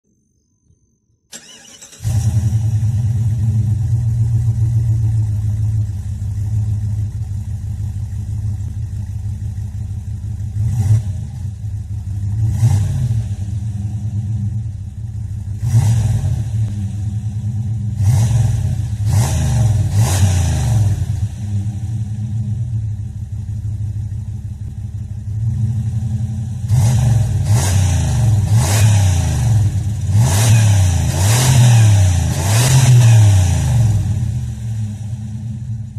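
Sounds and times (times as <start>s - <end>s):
car engine idling and revving: 1.3s - 35.9s.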